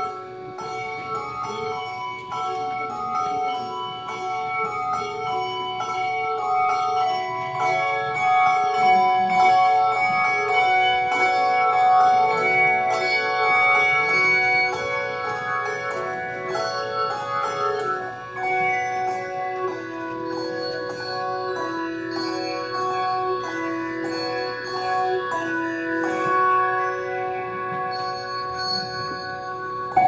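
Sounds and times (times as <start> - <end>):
handbells ringing a tune: 0.0 - 30.0.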